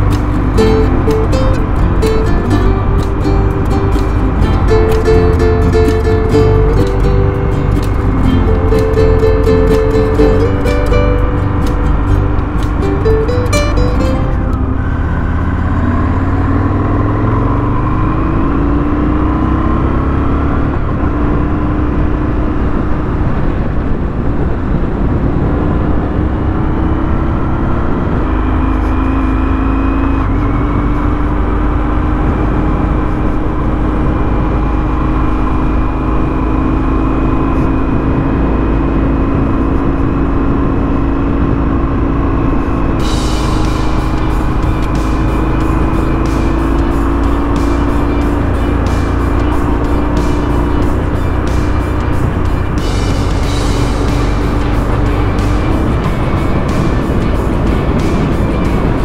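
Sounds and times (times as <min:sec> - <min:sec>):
motorcycle engine revving: 0:00.0 - 0:23.7, 0:25.7 - 0:59.0
wind rumble on microphone: 0:00.0 - 0:59.0.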